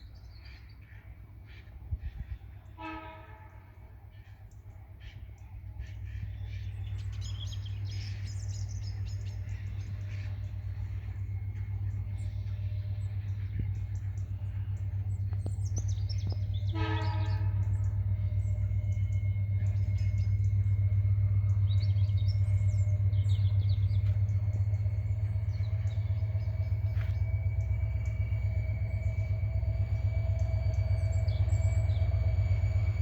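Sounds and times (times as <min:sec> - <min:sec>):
birds chirping: 0:00.0 - 0:33.0
diesel locomotive engine drone: 0:00.0 - 0:33.0
locomotive horn blast: 0:02.7 - 0:04.1, 0:05.8 - 0:33.0.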